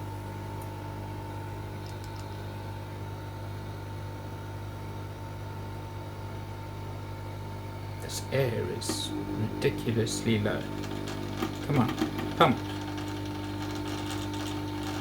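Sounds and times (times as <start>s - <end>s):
air pump humming and whining: 0.0s - 15.0s.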